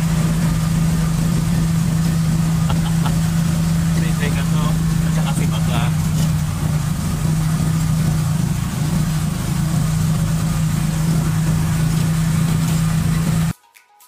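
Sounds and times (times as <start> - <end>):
road noise: 0.0 - 13.5
vehicle engine running: 0.0 - 13.5.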